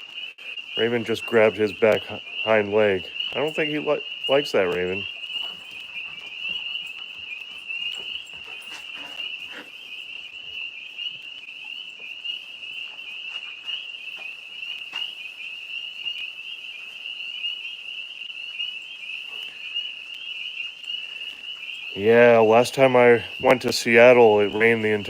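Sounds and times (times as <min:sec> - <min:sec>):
tree frogs trilling: 0:00.0 - 0:25.0.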